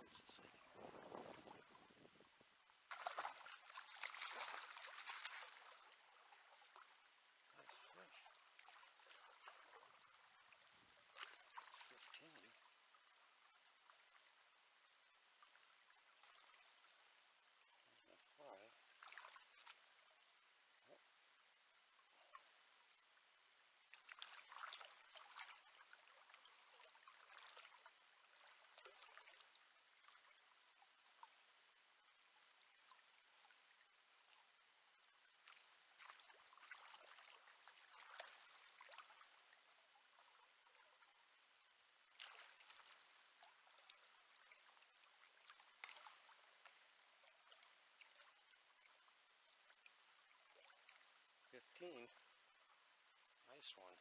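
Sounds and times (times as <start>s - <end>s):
water splashing and trickling: 0.0s - 14.4s, 15.3s - 20.3s, 23.8s - 54.0s.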